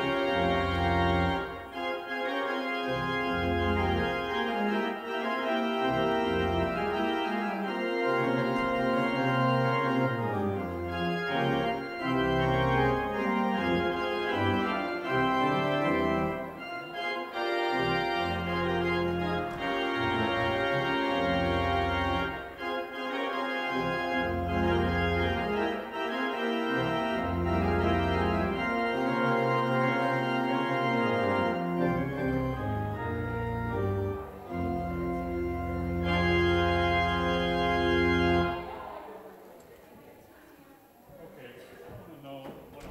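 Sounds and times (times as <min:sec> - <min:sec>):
pipe organ chords: 0:00.0 - 0:39.5.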